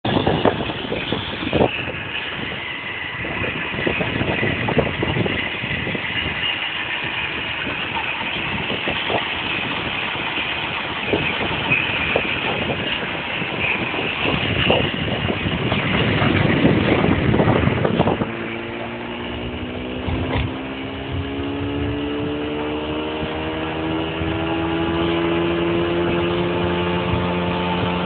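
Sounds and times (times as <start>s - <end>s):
moped engine running: 0.0s - 28.0s.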